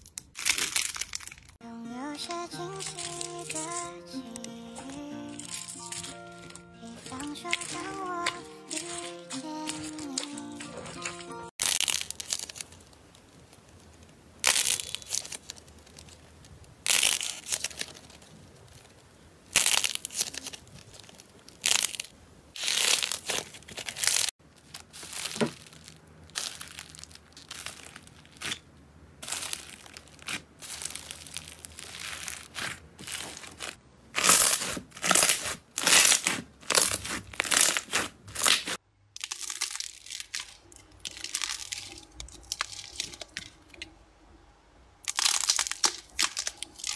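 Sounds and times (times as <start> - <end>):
slime crackling and crunching: 0.0 - 1.6, 2.2 - 43.8, 45.0 - 46.9.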